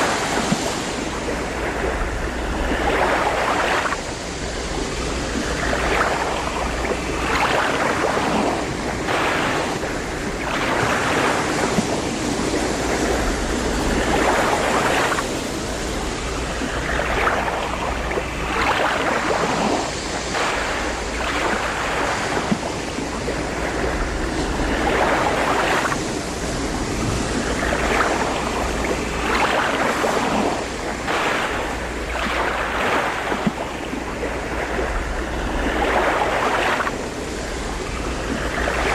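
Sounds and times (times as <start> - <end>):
low rumble of wind: 0.0 - 38.9
ocean waves breaking: 0.0 - 38.9.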